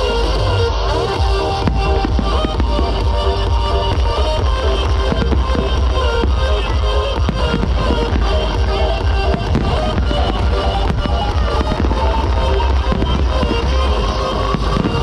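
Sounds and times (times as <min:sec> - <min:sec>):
fireworks bursting and crackling: 0:00.0 - 0:15.0
loud music: 0:00.0 - 0:15.0.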